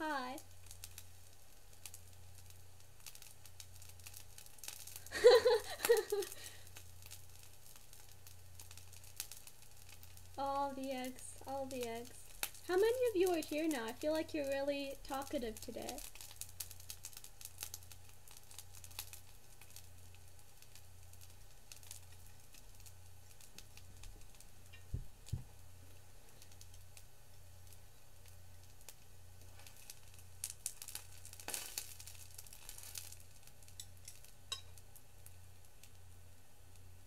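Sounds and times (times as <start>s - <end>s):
food sizzling in a skillet: 0.0s - 37.0s.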